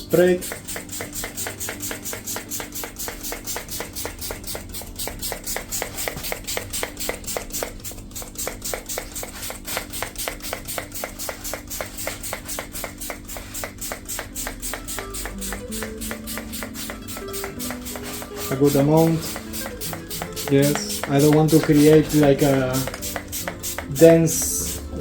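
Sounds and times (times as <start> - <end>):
fast rhythmic background music: 0.0 - 25.0.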